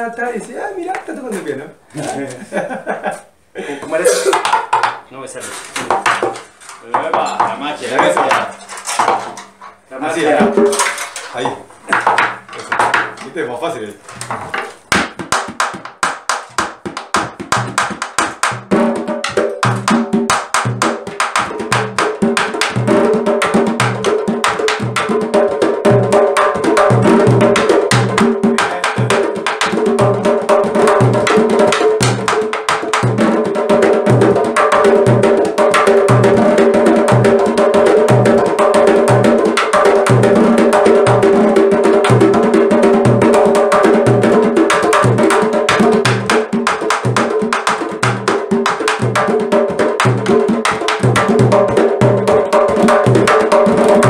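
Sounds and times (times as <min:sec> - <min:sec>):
drum ensemble playing: 0:03.9 - 0:54.0.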